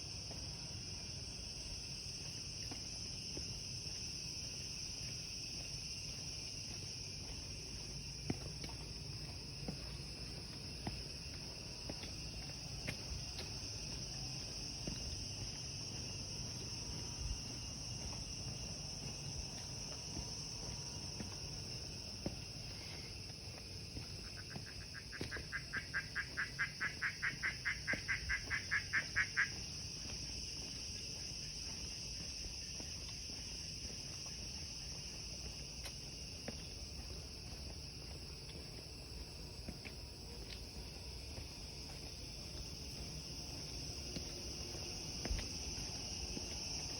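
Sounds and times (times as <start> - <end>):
insect chorus droning: 0.0 - 46.9.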